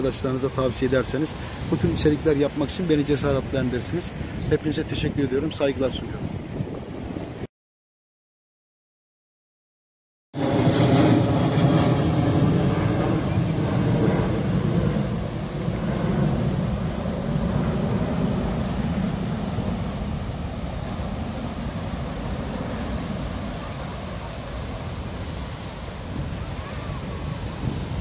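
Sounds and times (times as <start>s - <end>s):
airliner engine drone: 0.0s - 7.4s, 10.4s - 28.0s.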